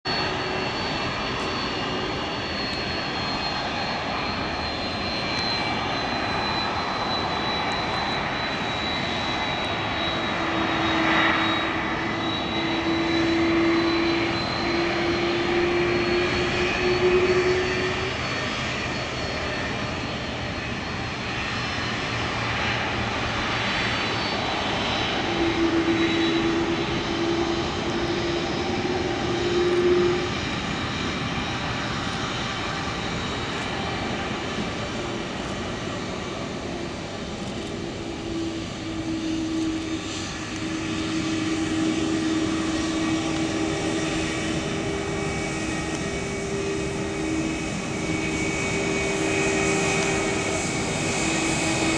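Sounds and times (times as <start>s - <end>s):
jet engines whining and roaring: 0.0s - 51.9s.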